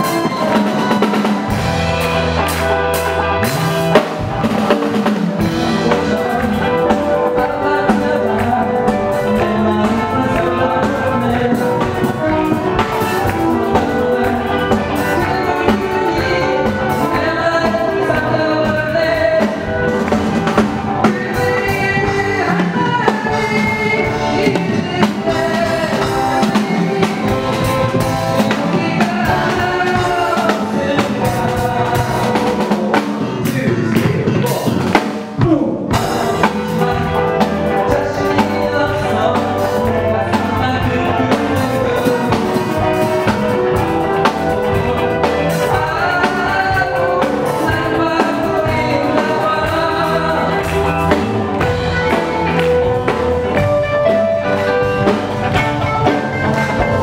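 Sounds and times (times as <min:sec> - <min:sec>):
live band playing upbeat song: 0:00.0 - 0:57.0.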